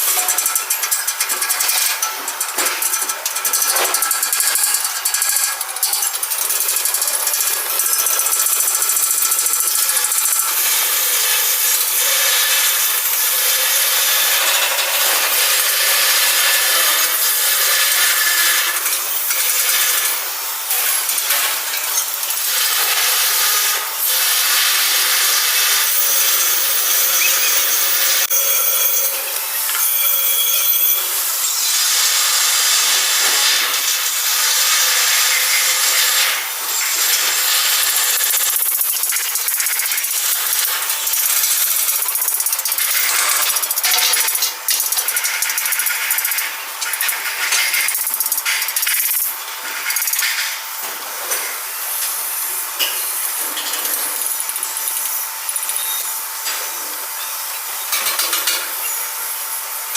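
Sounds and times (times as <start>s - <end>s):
angle grinder grinding steel: 0.0s - 59.9s.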